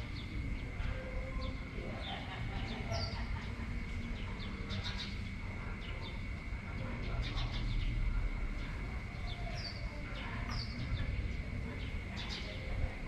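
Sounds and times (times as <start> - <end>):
birds chirping: 0.0 - 13.0
wind rumble on microphone: 0.0 - 13.0.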